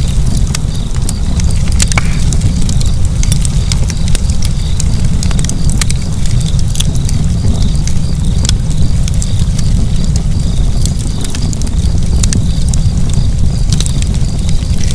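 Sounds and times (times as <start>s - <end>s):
low rumble of flames: 0.0s - 14.9s
sharp pops of fire: 0.0s - 14.9s
wood fire crackling: 0.0s - 14.9s.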